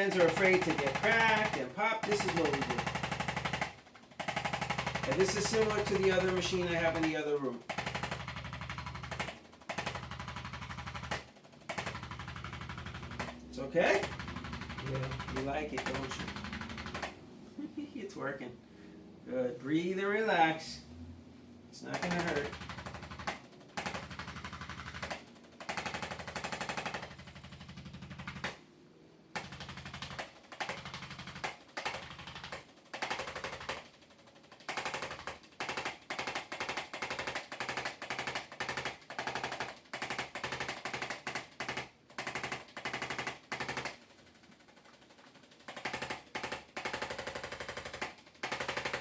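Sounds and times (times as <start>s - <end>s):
adjusting instrument rapid taps: 0.0s - 17.2s, 21.9s - 28.6s, 29.4s - 49.0s.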